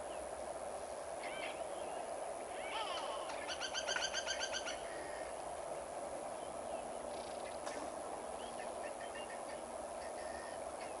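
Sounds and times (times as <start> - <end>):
birds calling: 1.2 - 11.0.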